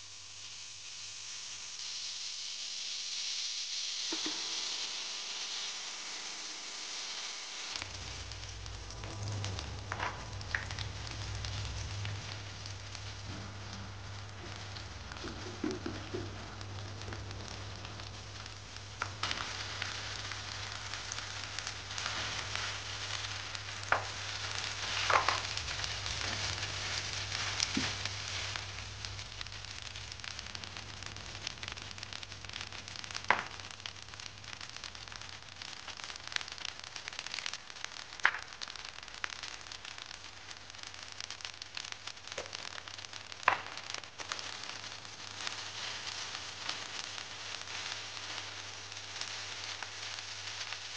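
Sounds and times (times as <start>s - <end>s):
rice sizzling in a pan: 0.0s - 50.9s.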